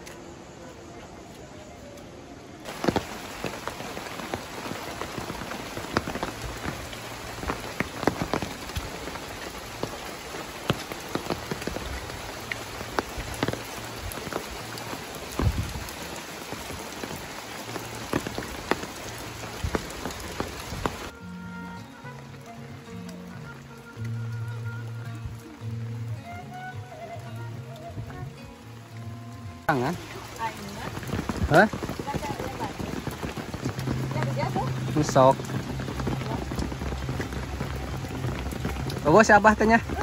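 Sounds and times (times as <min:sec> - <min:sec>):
steady rain falling: 0:00.0 - 0:40.0
sharp raindrops smacking: 0:02.6 - 0:21.2, 0:21.8 - 0:40.0.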